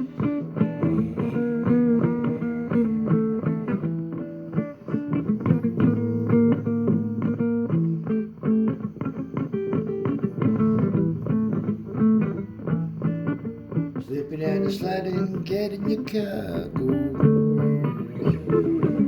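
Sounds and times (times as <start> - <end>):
plucked guitar notes: 0.0 - 19.0.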